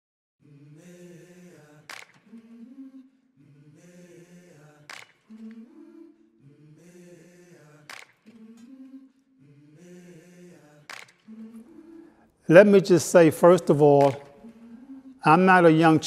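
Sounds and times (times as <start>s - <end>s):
choir-like wordless notes: 0.4s - 16.0s.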